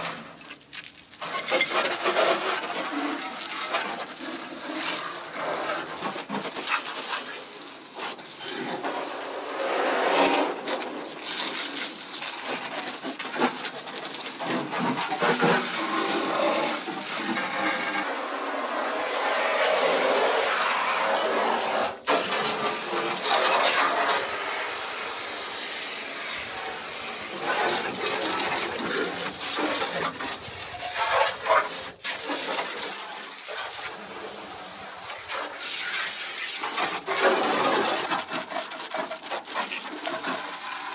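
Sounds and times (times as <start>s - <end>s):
pressure washer spraying metal: 1.2s - 40.9s.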